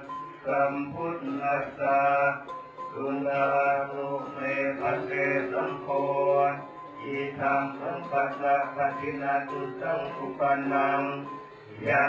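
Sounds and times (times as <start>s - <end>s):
monks chanting in unison: 0.0s - 12.0s.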